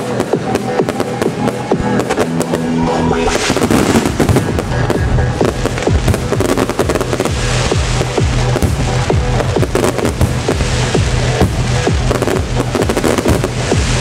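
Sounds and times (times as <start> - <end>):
fireworks bursting and crackling: 0.0 - 14.0
trance music over loudspeakers: 0.0 - 14.0.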